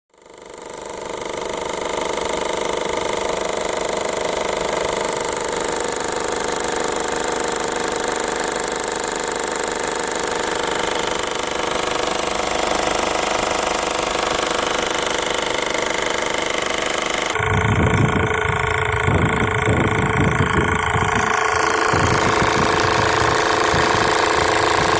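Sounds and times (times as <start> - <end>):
diesel engine running: 0.2 - 24.9
metallic rattle: 0.8 - 24.9.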